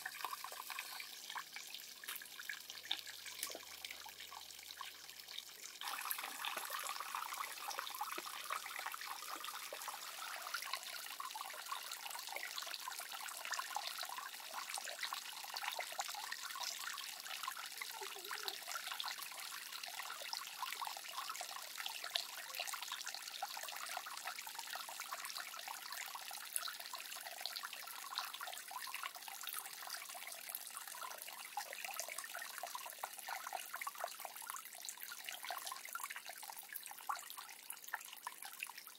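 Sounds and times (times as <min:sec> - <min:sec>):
small drips and splashes: 0:00.0 - 0:38.9
water trickling: 0:00.0 - 0:38.9.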